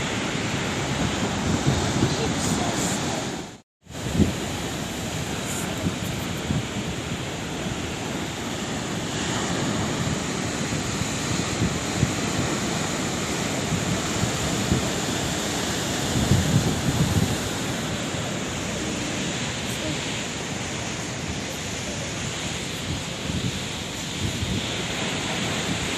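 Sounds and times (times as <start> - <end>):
sea waves breaking: 0.0 - 25.9.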